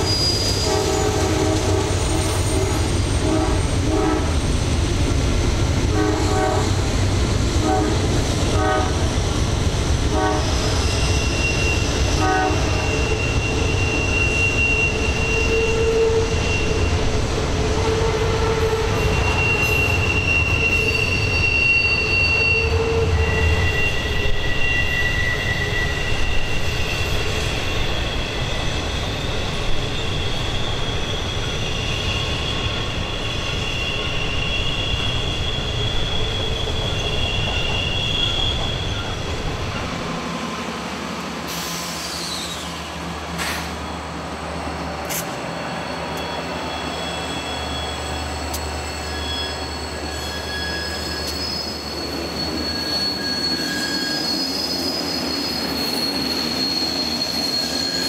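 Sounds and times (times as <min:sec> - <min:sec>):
train wheel flanges squealing: 0:00.0 - 0:40.5, 0:41.4 - 0:58.0
heavy low train rumble: 0:00.0 - 0:58.0.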